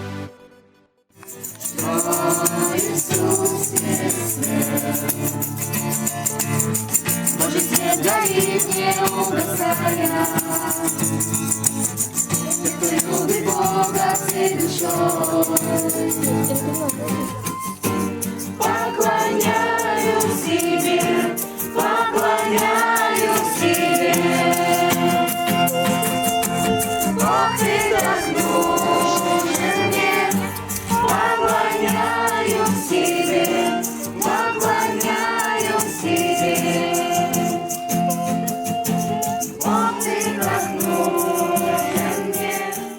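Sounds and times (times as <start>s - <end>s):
rattling shaker beat: 1.2s - 42.9s
choir singing worship song: 1.4s - 6.2s, 6.9s - 16.9s, 18.5s - 38.0s, 39.3s - 42.9s.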